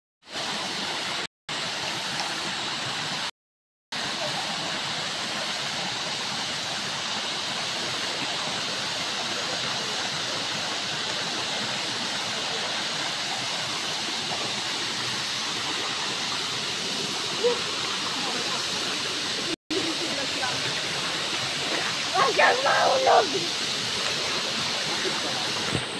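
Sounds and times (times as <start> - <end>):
river rushing over boulders: 4.0 - 25.9.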